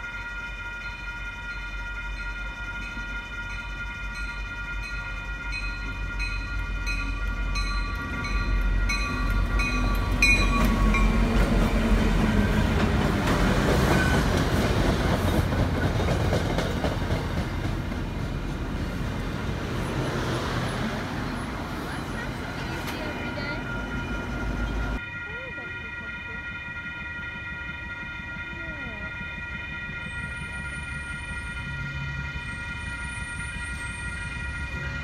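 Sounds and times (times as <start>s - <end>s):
railroad crossing bell ringing: 0.0s - 35.0s
train passing with rumble: 0.0s - 35.0s.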